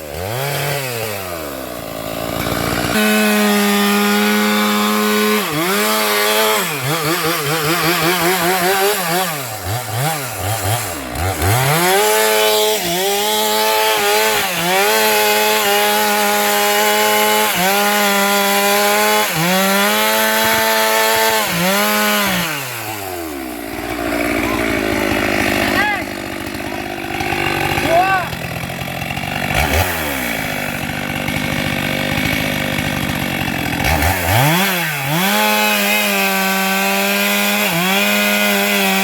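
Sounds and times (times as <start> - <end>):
chainsaw cutting branches: 0.0 - 39.0.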